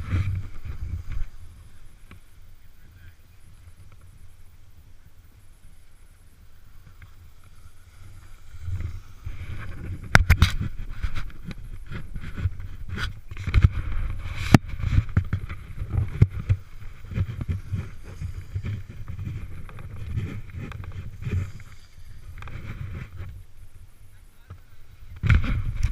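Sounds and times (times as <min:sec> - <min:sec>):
snowboard scraping over snow: 0:00.0 - 0:23.8.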